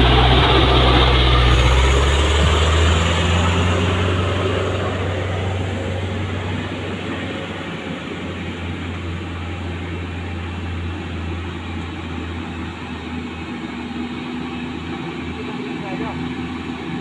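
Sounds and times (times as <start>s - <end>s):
diesel truck engine running: 0.0s - 17.0s
traffic noise: 0.0s - 17.0s.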